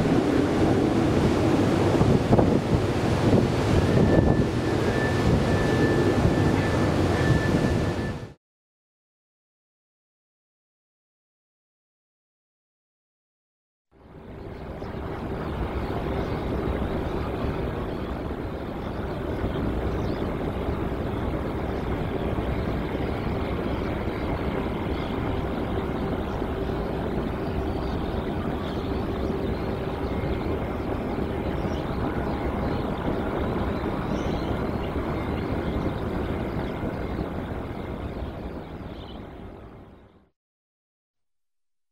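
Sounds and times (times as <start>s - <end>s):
jet engines running: 0.0s - 8.4s, 14.0s - 40.3s.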